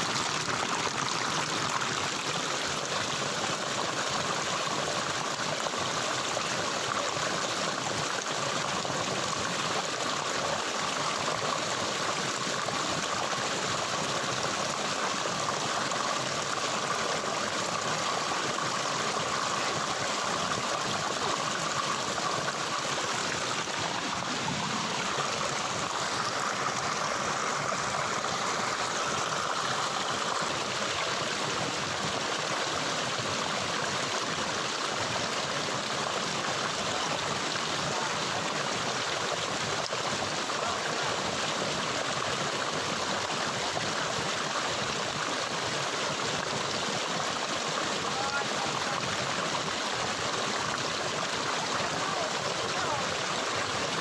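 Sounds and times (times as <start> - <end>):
running water flowing: 0.0 - 54.0.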